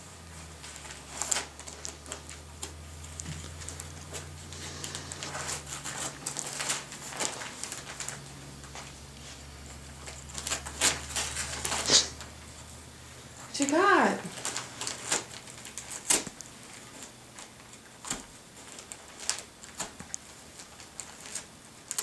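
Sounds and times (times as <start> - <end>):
wrapping paper crinkling and tearing: 0.2 - 12.7, 13.6 - 22.0.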